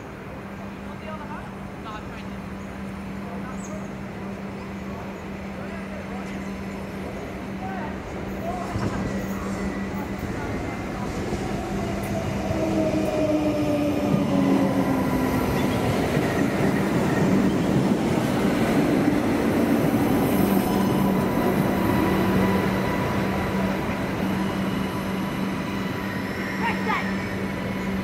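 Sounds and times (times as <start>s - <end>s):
railcar engine hum: 0.0s - 28.0s
wheels rushing on rail: 0.0s - 28.0s.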